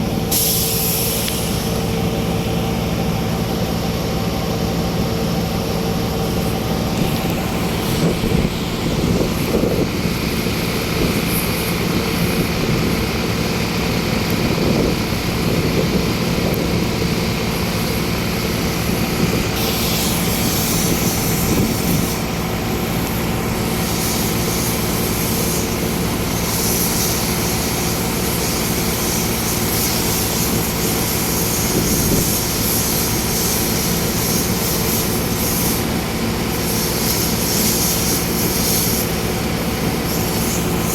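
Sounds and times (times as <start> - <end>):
engine droning: 0.0 - 40.9
high hiss: 0.2 - 2.6, 5.9 - 40.9.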